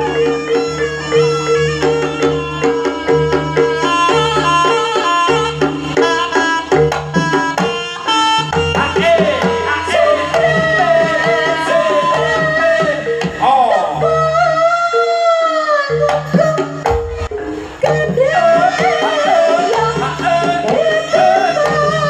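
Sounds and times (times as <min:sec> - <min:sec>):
hand drums: 0:00.0 - 0:14.6, 0:15.9 - 0:22.0
wavering high melody: 0:00.0 - 0:22.0.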